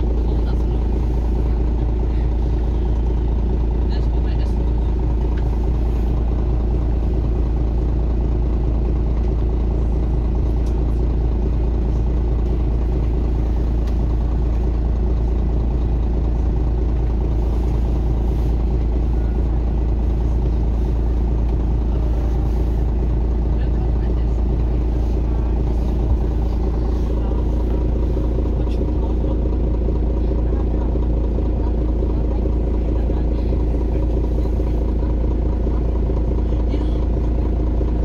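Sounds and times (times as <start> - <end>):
bus engine rumbling: 0.0 - 38.0.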